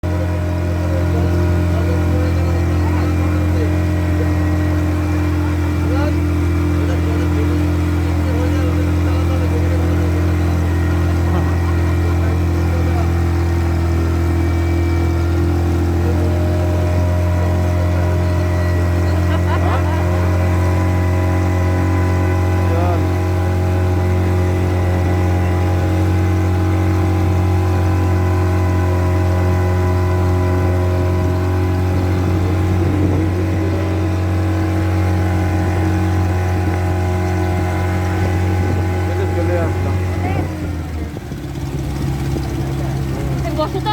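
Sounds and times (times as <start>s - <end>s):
speedboat engine droning: 0.0s - 43.9s.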